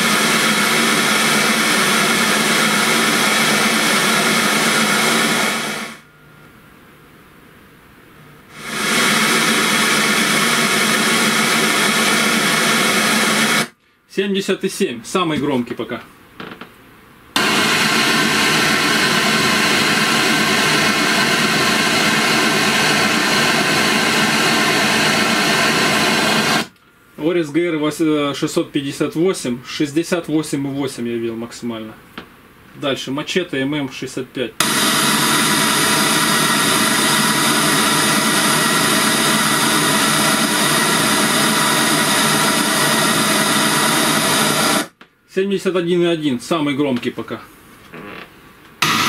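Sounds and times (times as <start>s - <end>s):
speaker playing test noise hiss: 0.0s - 49.0s.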